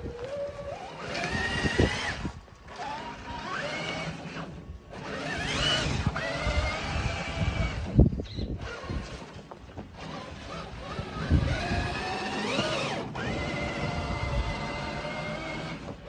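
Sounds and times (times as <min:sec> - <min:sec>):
toy car electric motor whining: 0:00.0 - 0:16.0.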